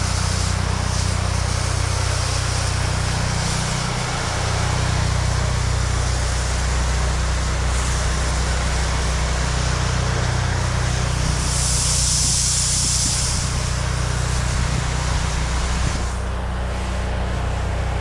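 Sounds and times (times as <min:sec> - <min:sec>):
high-pressure spray hissing: 0:00.0 - 0:16.4
pressure washer engine running: 0:00.0 - 0:18.0.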